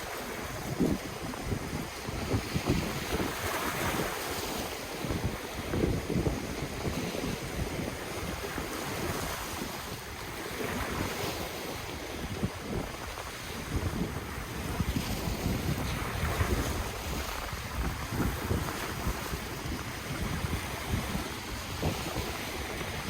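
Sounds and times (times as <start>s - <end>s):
ocean waves washing in: 0.0s - 23.0s
wind buffeting microphone: 0.0s - 23.0s.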